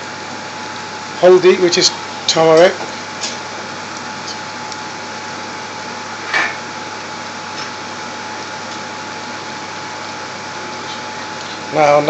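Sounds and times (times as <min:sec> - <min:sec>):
onions sizzling in a saucepan: 0:00.0 - 0:12.0.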